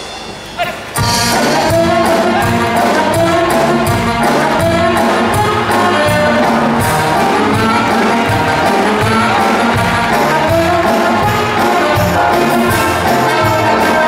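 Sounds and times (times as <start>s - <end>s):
orchestral music with brass: 1.0s - 14.0s.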